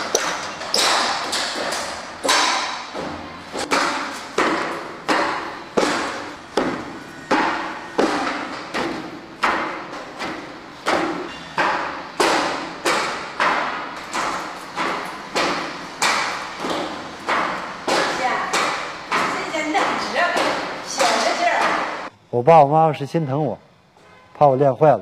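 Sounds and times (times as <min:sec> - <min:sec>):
hands striking wooden dummy: 0:00.0 - 0:22.1.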